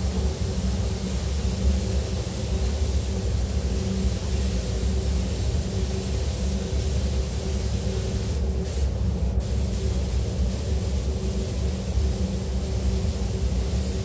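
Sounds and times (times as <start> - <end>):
spray gun hissing: 0.0 - 14.0
ventilation hum: 0.0 - 14.0.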